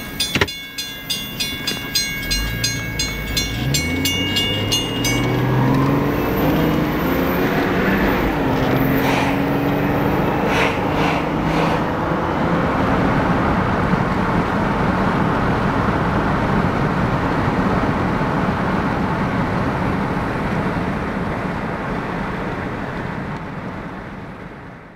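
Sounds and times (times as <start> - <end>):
low engine drone: 0.0 - 24.6
car road and wind noise: 0.0 - 24.9.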